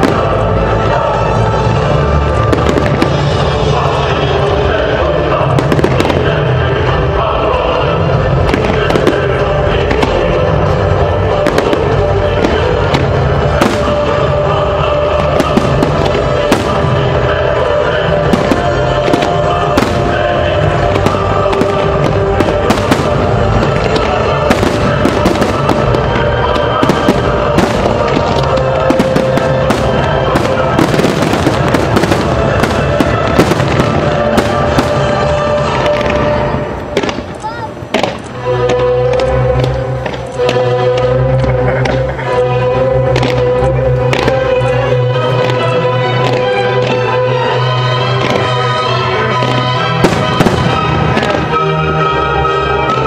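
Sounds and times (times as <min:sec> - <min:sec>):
fireworks bursting and crackling: 0:00.0 - 0:42.4, 0:43.0 - 0:53.0
loud music: 0:00.0 - 0:53.0.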